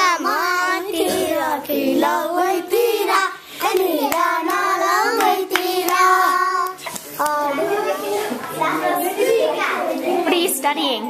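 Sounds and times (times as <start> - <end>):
child singing: 0.0 - 10.5.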